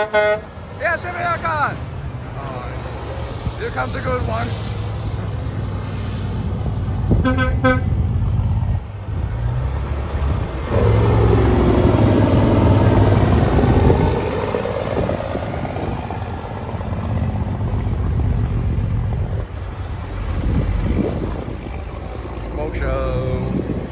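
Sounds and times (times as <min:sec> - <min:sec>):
semi truck passing: 0:00.0 - 0:23.9.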